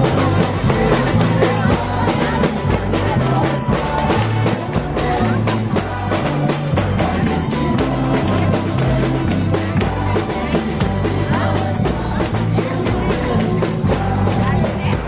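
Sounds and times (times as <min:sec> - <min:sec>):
bass line: 0:00.0 - 0:15.0
drum kit beat: 0:00.0 - 0:15.0.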